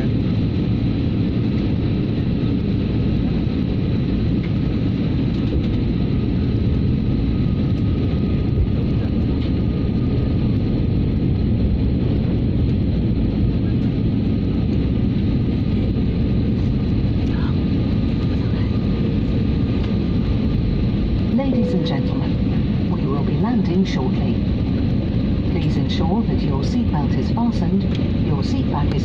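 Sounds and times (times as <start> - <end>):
jet cabin engine and airflow noise: 0.0 - 29.0.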